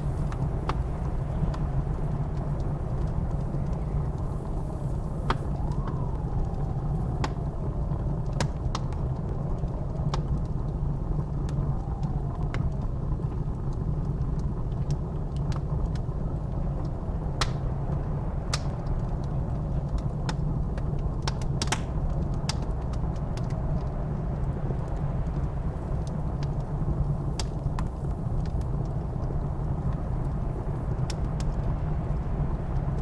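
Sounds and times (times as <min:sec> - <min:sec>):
faint wind whistle: 0:00.0 - 0:14.7, 0:16.0 - 0:33.0
low rumble of blizzard wind: 0:00.0 - 0:33.0
wood fire crackling and popping: 0:00.0 - 0:33.0.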